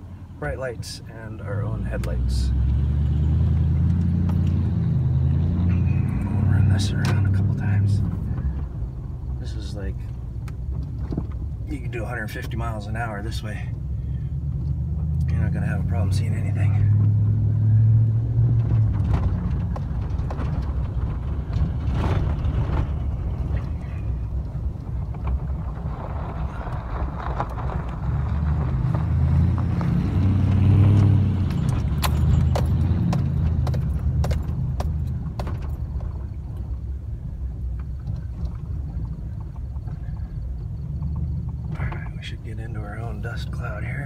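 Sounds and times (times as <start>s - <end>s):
truck engine and tyre rumble: 0.0s - 44.0s.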